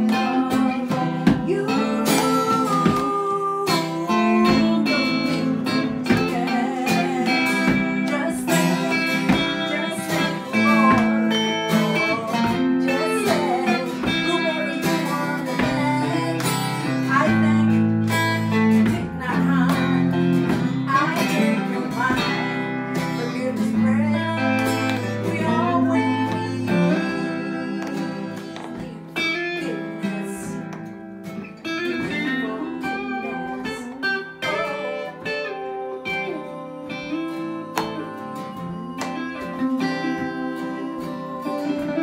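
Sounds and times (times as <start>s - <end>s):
acoustic guitar blues playing: 0.0s - 42.0s.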